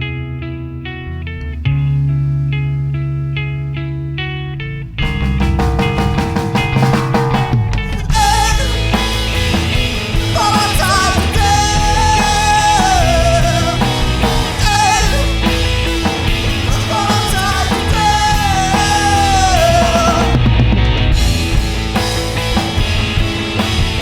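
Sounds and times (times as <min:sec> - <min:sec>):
high melodic lead line bending: 0:03.4 - 0:24.0
rock song with drums and guitars: 0:04.6 - 0:24.0.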